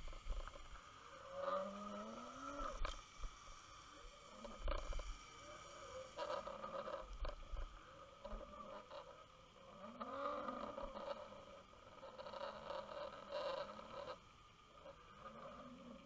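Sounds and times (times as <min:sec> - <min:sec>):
faint wavering tones: 0:00.0 - 0:16.0.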